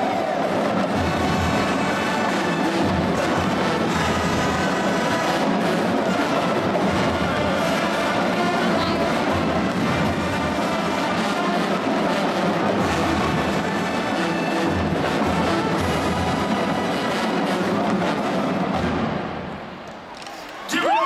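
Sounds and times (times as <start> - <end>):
marching band brass and drums: 0.0 - 21.0.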